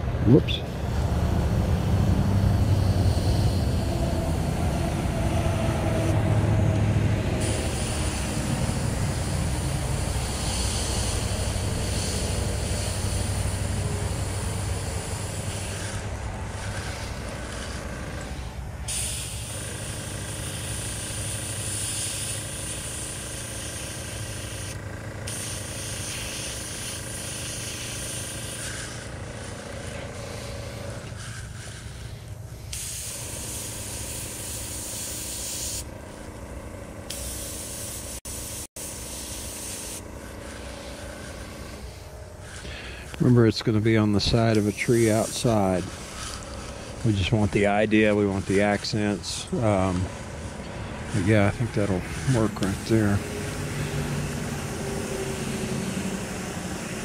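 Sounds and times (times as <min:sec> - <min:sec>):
steady hum: 0:00.0 - 0:57.0
airbrush hissing: 0:00.6 - 0:06.2, 0:07.2 - 0:57.0.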